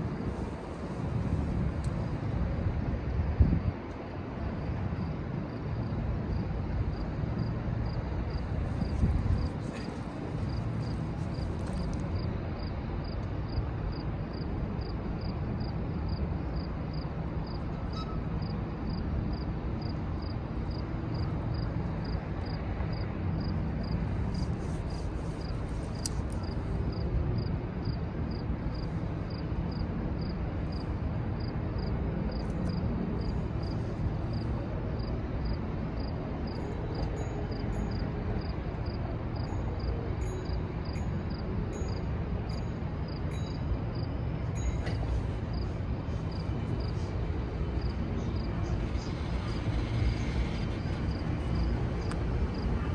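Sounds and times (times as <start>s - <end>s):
diesel locomotive rumble: 0.0s - 52.9s.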